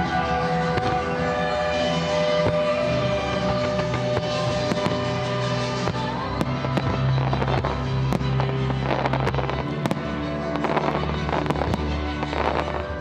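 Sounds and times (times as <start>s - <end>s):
fireworks bursting and crackling: 0.0s - 13.0s
music with sustained tones: 0.0s - 13.0s.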